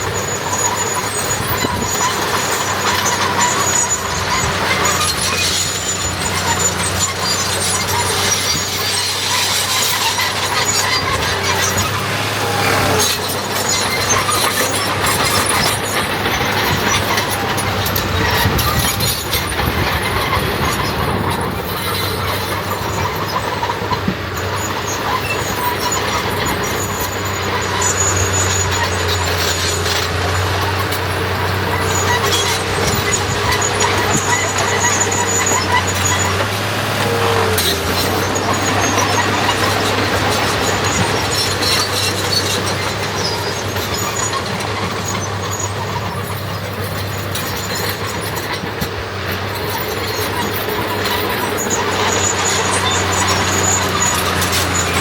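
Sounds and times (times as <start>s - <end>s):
heavy diesel engines droning: 0.0s - 55.0s.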